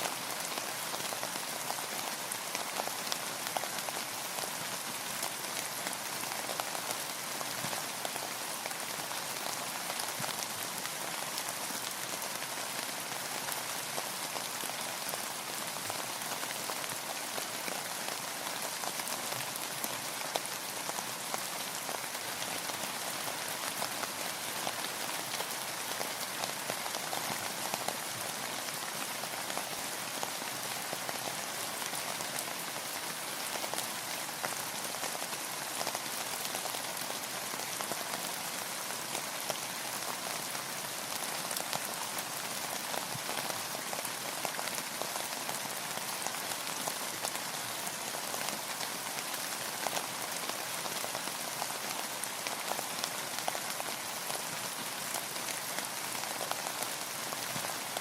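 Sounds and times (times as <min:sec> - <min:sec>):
rain drops pattering: 0:00.0 - 0:58.0.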